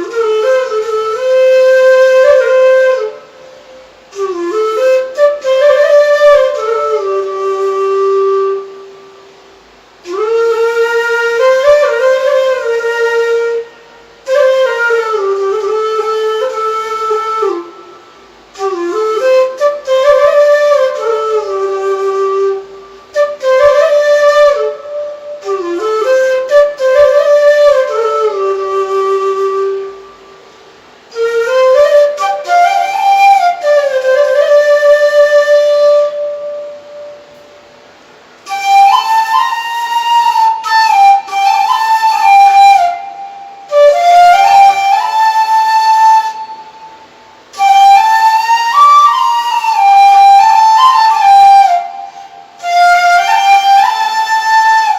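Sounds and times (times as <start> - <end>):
flute playing slow melody: 0.0 - 54.9.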